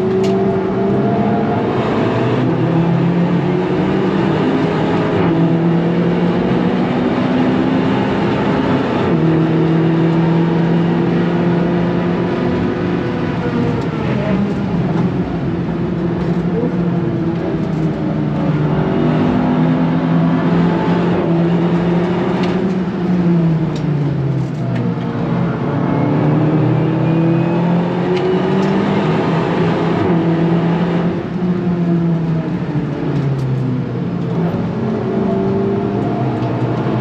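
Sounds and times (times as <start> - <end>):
car engine at high speed: 0.0 - 37.0
road and wind noise: 0.0 - 37.0.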